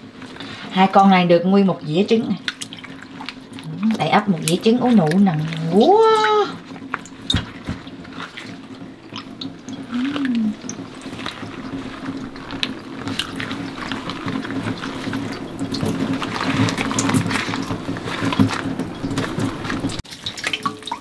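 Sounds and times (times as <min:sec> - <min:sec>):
tap water running into sink: 0:02.4 - 0:21.0.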